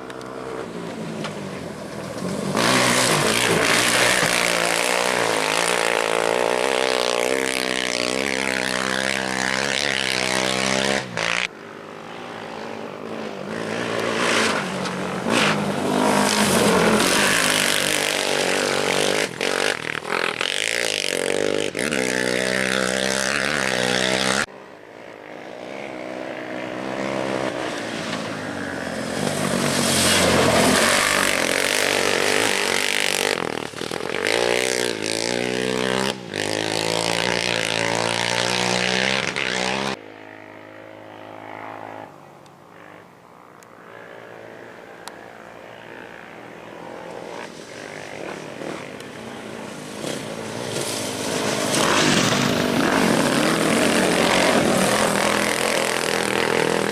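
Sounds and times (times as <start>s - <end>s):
off-road race engines revving: 0.0s - 56.9s.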